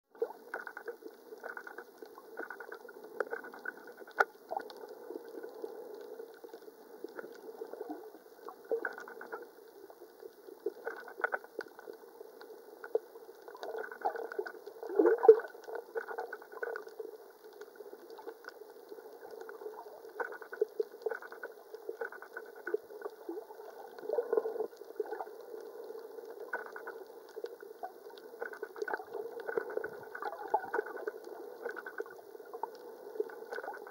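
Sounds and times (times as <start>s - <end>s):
underwater water wash: 0.1s - 33.9s
water gurgles: 0.1s - 33.9s.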